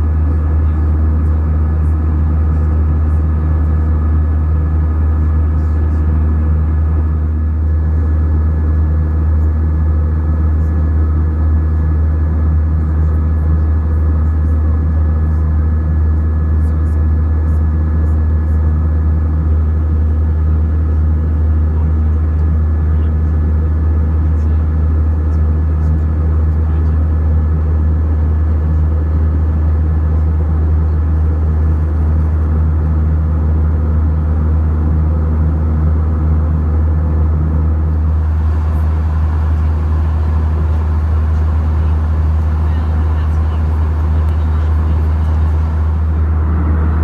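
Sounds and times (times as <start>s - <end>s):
airliner cabin engine drone: 0.0s - 47.0s
faint steady hum: 0.0s - 47.0s.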